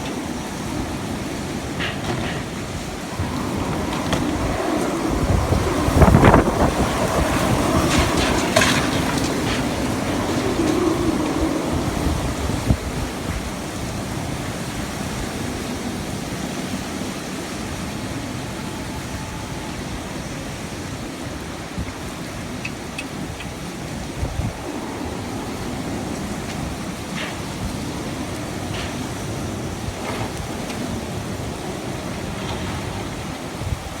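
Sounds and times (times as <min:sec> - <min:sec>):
gusts buffeting microphone: 0:00.0 - 0:34.0
heavy rain: 0:00.0 - 0:34.0
strong wind: 0:00.0 - 0:34.0.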